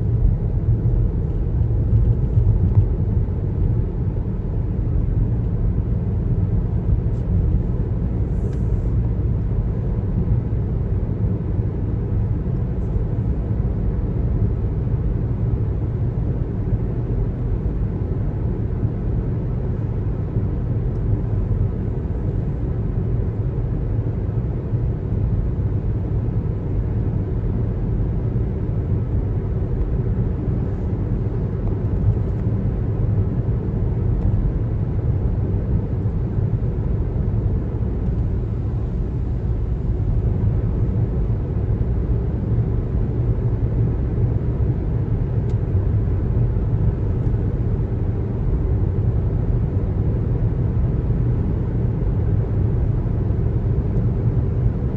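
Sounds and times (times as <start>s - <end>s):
car road noise rumble: 0.0s - 54.9s.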